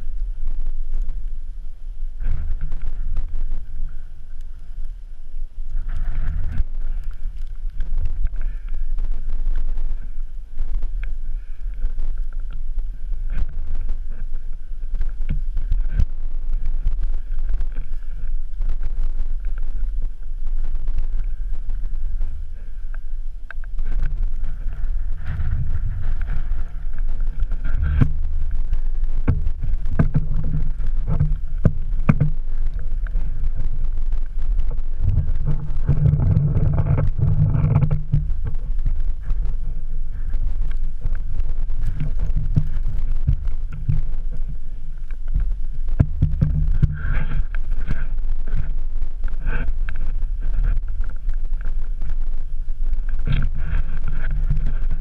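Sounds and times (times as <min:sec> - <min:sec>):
wind buffeting microphone: 0:02.1 - 0:55.0.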